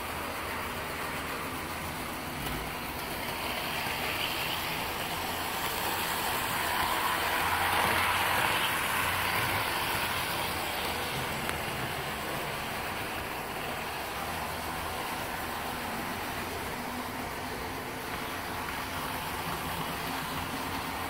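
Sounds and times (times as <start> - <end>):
model train whirring rumble: 0.0 - 21.0.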